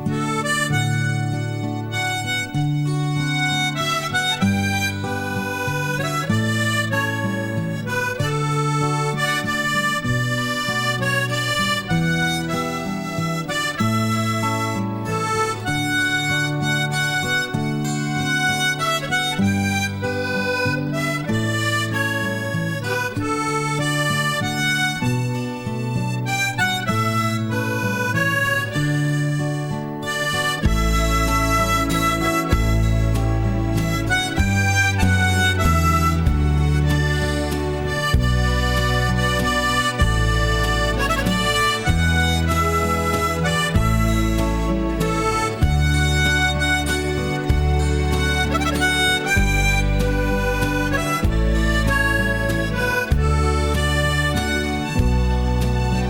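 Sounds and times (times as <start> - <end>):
reedy wind instrument melody: 0.0 - 56.0.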